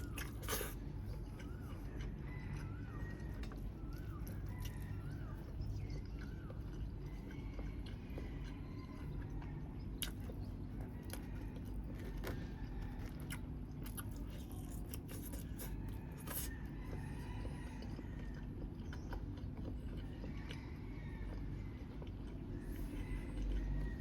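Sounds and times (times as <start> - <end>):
person chewing food: 0.0 - 24.0
steady low hum: 0.0 - 24.0.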